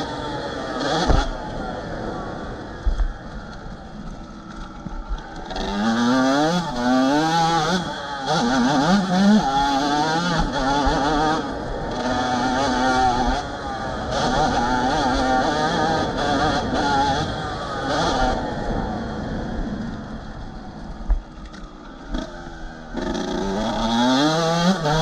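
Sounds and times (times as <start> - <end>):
motocross engine accelerating: 0.0 - 21.0, 21.6 - 25.0.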